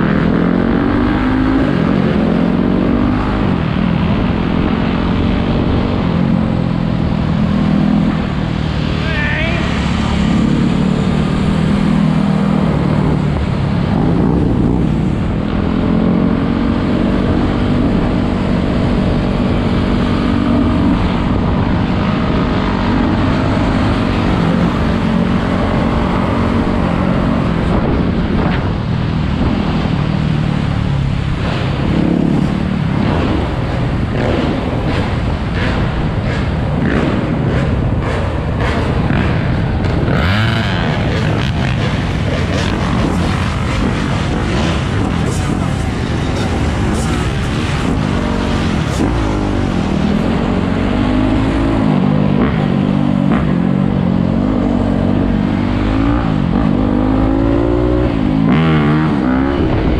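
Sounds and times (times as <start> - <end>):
quad and dirt bike engines: 0.0 - 59.9
wind rumble on microphone: 0.0 - 59.9.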